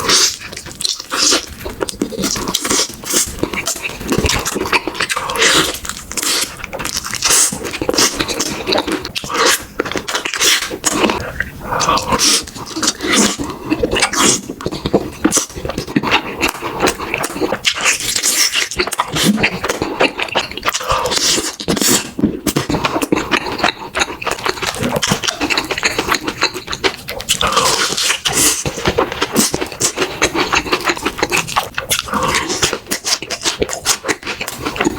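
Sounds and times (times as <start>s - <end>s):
chewing and crunching food: 0.0s - 34.9s.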